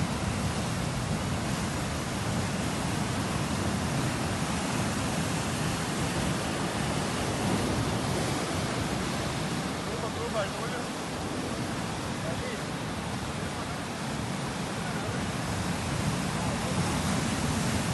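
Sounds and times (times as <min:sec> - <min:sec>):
surf breaking on rocky shore: 0:00.0 - 0:17.9.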